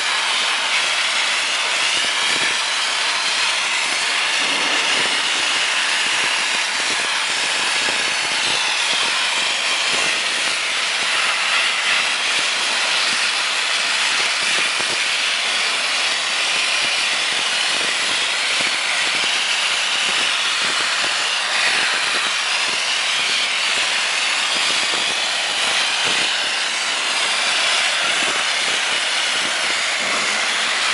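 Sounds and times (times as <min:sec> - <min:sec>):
dry ice blasting hiss: 0:00.0 - 0:30.9.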